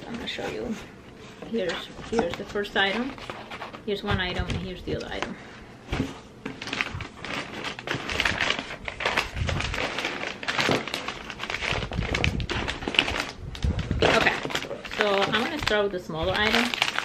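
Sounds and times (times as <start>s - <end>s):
paper wrapping rustling: 0.0s - 5.3s, 6.0s - 17.0s.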